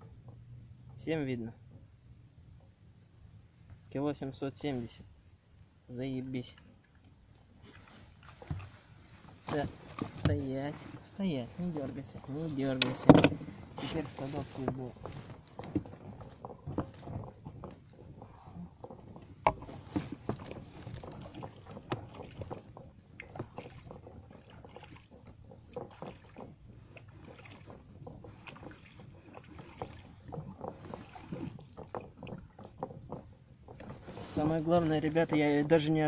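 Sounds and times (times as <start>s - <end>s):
knocks and clicks in a boat: 0.0s - 2.8s, 6.0s - 36.0s.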